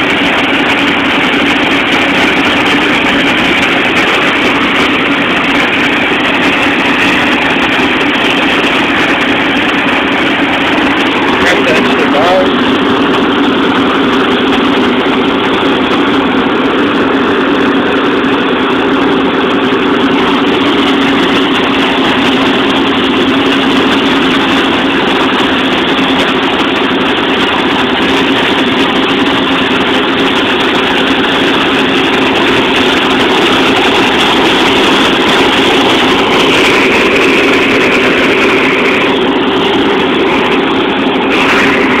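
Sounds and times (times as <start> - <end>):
high whine: 0.0 - 42.0
loud engine drone: 0.0 - 42.0.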